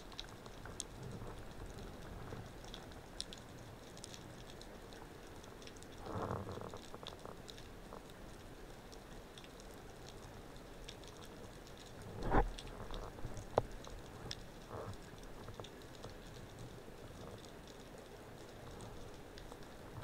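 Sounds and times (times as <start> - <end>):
underwater crackle of clicks: 0.0 - 20.0.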